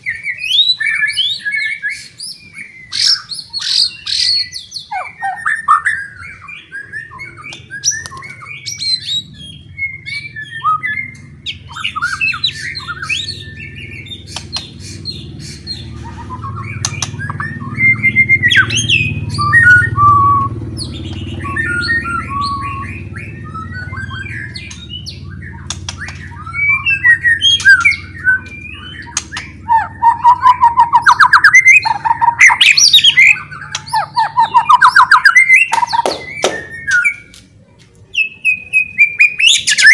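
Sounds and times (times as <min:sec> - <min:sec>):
bird singing whistled phrases: 0:00.0 - 0:37.3, 0:38.2 - 0:39.9.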